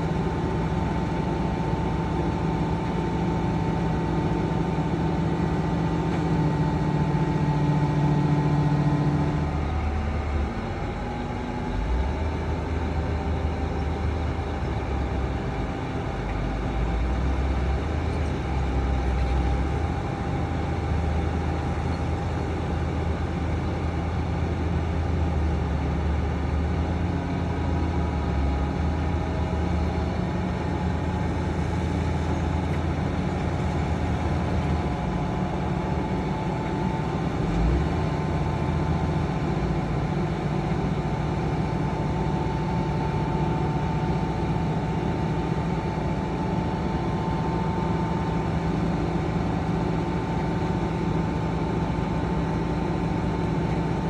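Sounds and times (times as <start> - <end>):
diesel machinery engine: 0.0 - 54.0.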